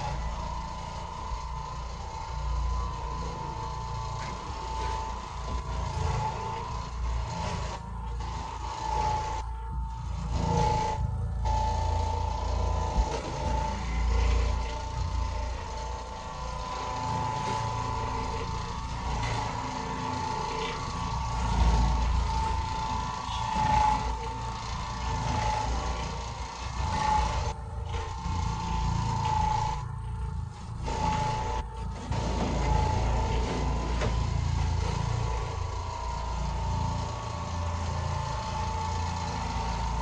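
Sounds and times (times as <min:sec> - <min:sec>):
floor machine motor hum and whine: 0:00.0 - 0:40.0.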